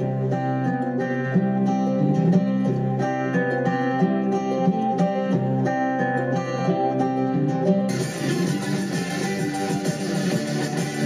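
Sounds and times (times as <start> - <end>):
plucked acoustic guitar music: 0.0 - 11.0.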